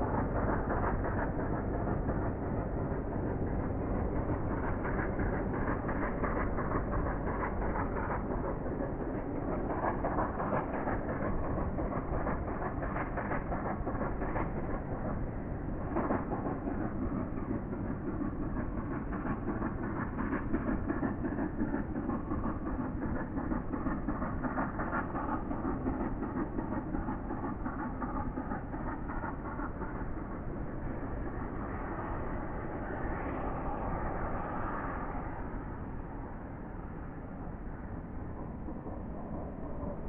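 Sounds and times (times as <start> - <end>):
steam locomotive exhaust beat: 0.0 - 40.0
train rumble: 0.0 - 40.0.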